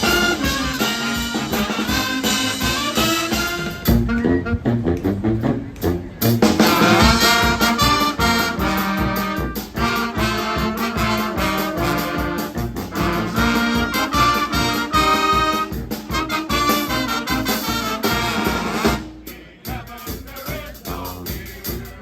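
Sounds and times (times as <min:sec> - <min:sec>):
brass band playing: 0:00.0 - 0:22.0
steady drum beat: 0:00.0 - 0:22.0.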